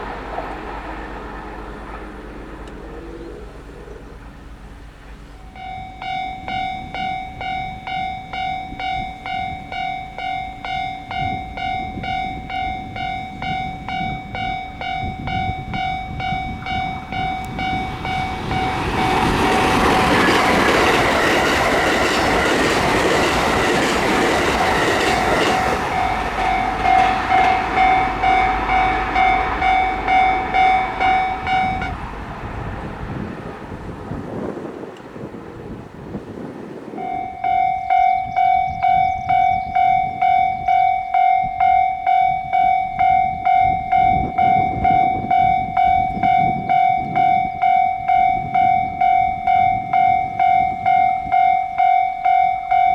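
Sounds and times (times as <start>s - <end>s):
train rushing past: 0.0s - 52.9s
level-crossing bell ringing: 5.4s - 32.0s, 37.0s - 52.9s.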